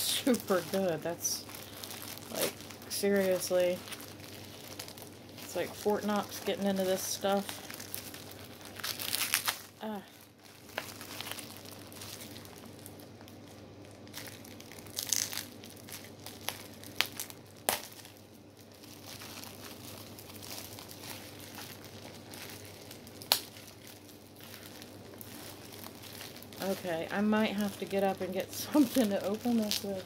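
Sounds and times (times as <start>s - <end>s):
bubble wrap crinkling and rustling: 0.0s - 30.0s.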